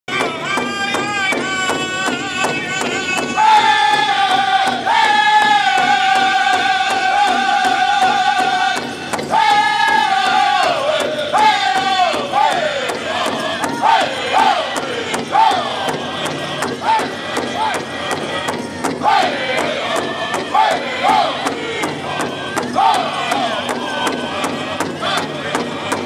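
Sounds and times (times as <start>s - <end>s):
men singing high-pitched lines: 0.1s - 26.0s
steady beat on large drum: 0.1s - 26.0s.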